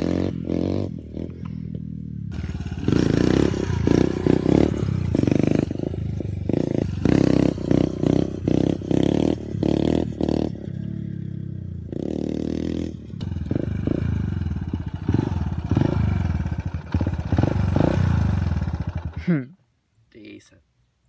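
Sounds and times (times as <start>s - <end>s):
dirt bike engine revving: 0.0s - 19.4s.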